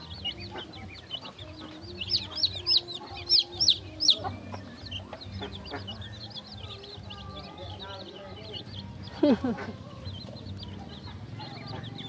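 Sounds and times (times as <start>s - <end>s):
baby fowl peeping: 0.0s - 12.0s.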